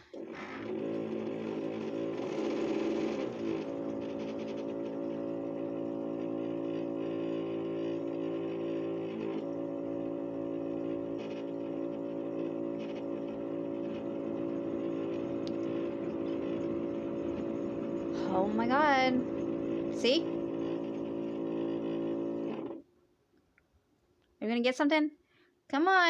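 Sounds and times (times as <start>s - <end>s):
coffee maker pump humming: 0.0s - 22.9s.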